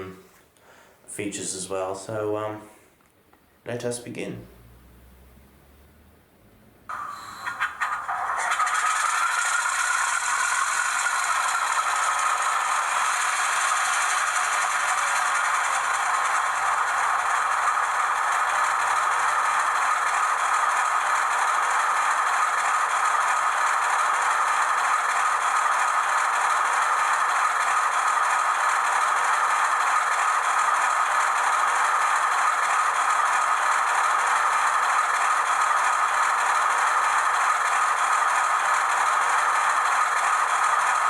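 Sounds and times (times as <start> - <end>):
model train rattling on track: 6.9 - 41.0.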